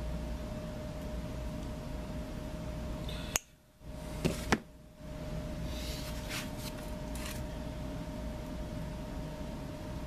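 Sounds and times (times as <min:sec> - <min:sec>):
background hum: 0:00.0 - 0:10.0.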